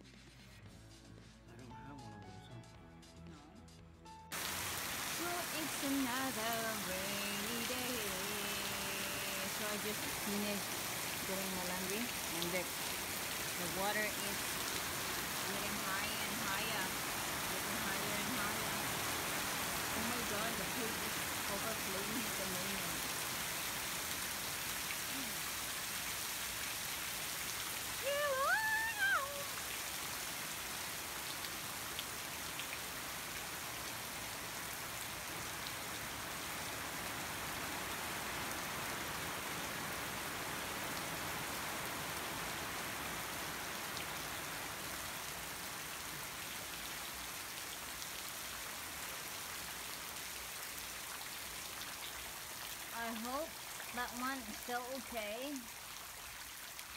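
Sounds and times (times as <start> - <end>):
heavy rain on lawn and foliage: 4.3 - 56.9.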